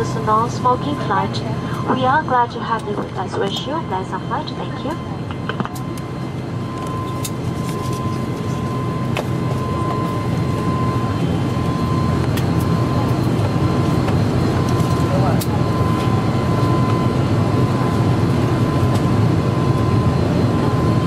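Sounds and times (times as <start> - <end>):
thin steady whine: 0.0 - 21.0
turboprop engine drone: 0.0 - 21.0.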